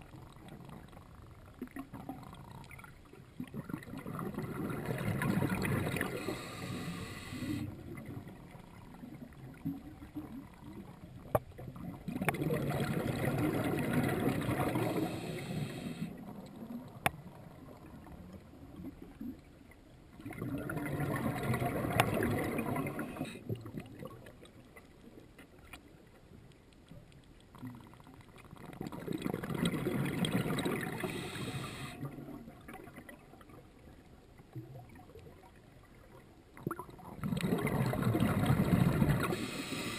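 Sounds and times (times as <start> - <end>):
underwater regulator bubbles: 0.0 - 19.5, 20.1 - 24.9, 27.5 - 33.6, 34.5 - 39.9.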